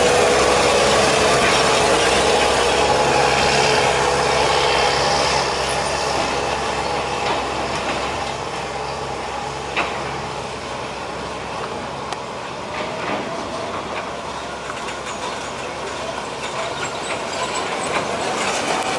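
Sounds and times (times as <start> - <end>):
heavy truck engine running: 0.0 - 18.9
road noise: 0.0 - 18.9.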